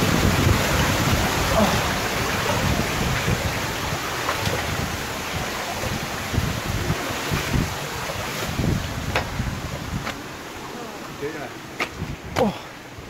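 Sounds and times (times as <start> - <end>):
flowing water rushing: 0.0 - 13.0
wind buffeting microphone: 0.0 - 13.0.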